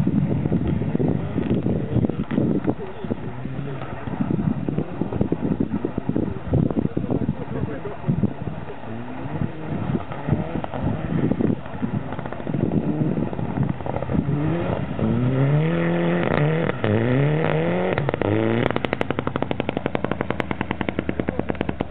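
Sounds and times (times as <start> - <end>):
rally car engine revving: 0.0 - 21.9
rapid even engine pulsing: 0.0 - 21.9.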